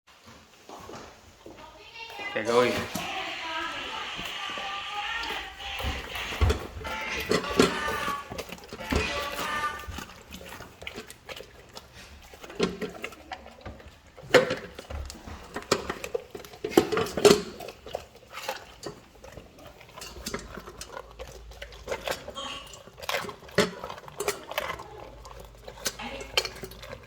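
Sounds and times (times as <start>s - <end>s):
dog chewing fish and bone: 0.8s - 27.0s.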